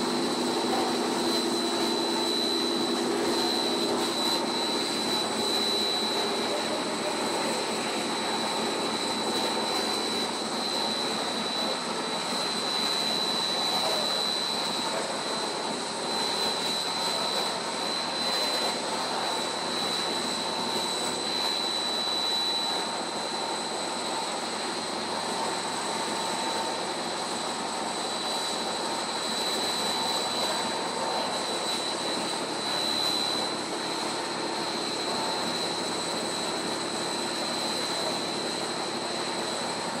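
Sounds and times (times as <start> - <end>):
high-pitched whine: 0.0 - 40.0
machine drone: 0.0 - 40.0.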